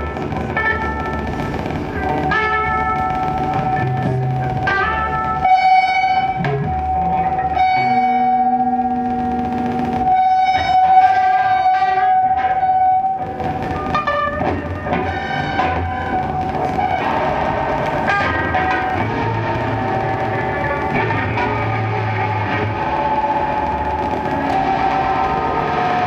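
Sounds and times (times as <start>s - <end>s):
electric guitar drone: 0.0s - 26.0s
layered pitched tones: 0.0s - 26.0s
low tone pair: 0.0s - 26.0s.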